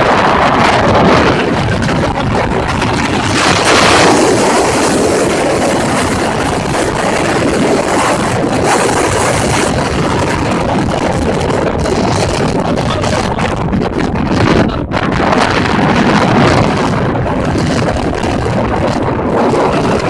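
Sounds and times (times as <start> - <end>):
wind and road noise: 0.0 - 20.0
wind buffeting microphone: 0.0 - 20.0.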